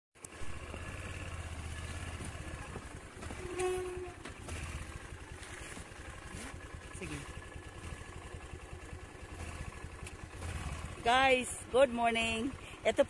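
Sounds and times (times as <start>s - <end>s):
vehicle engine running: 0.2s - 13.0s.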